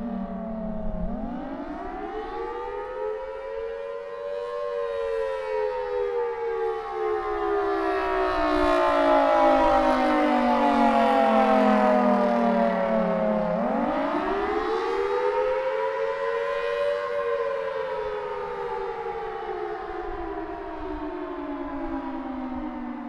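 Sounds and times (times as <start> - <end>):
outdoor warning siren: 0.0 - 23.0.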